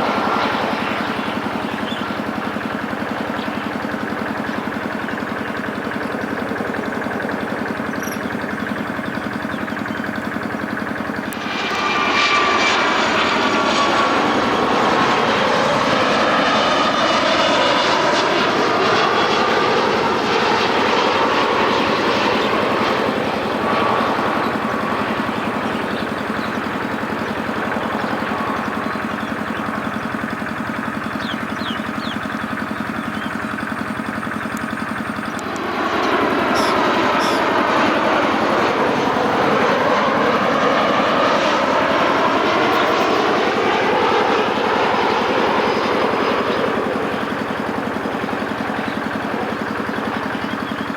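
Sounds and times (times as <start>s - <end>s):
jet airliner passing low: 0.0s - 50.9s
low engine hum: 0.0s - 50.9s.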